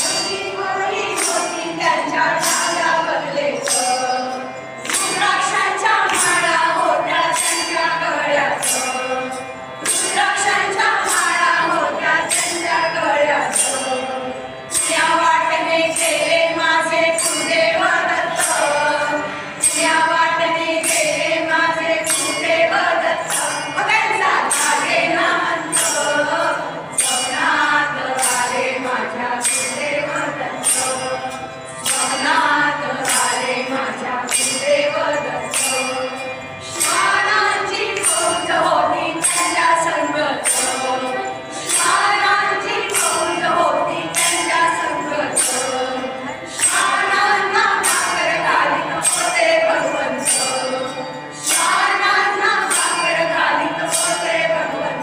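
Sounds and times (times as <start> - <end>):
hand cymbals struck: 0.0 - 55.0
harmonium: 0.0 - 55.0
women's chorus singing: 0.0 - 55.0.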